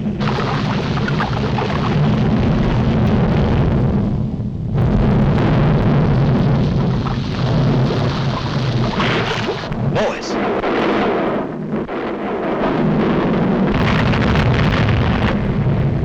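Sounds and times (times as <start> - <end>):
cartoon volcano eruption rumble: 0.0 - 16.0.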